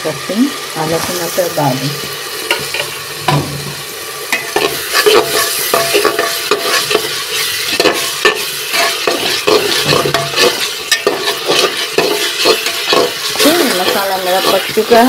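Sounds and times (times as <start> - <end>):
masala sizzling in hot oil: 0.0 - 15.0
spatula scraping and knocking pot: 2.4 - 15.0.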